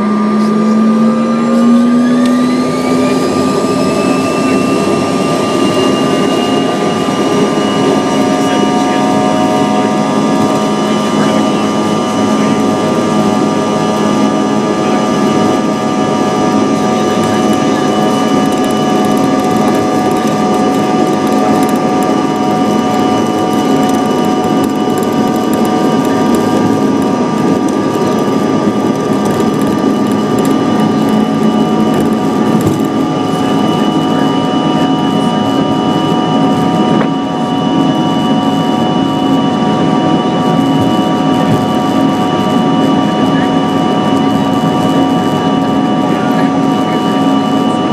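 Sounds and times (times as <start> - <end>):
jet engines roaring with whine: 0.0 - 47.9.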